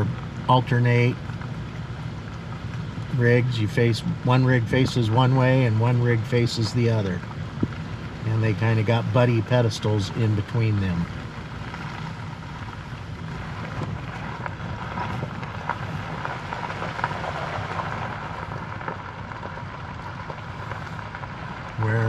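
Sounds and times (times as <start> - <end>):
vehicle driving slowly: 0.0 - 22.0.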